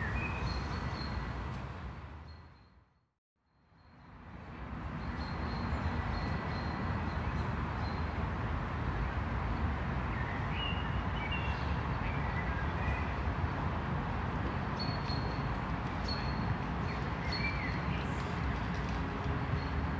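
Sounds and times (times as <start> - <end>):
traffic hum: 0.0 - 2.5, 4.1 - 19.9.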